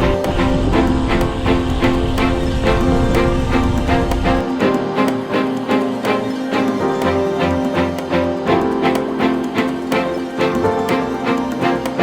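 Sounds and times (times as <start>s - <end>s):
song with strings: 0.0s - 12.0s.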